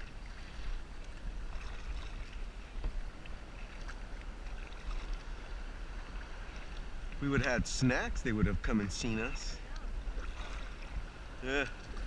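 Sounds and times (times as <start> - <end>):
water lapping around a kayak: 0.0 - 12.0
wind rumble on microphone: 0.0 - 12.0.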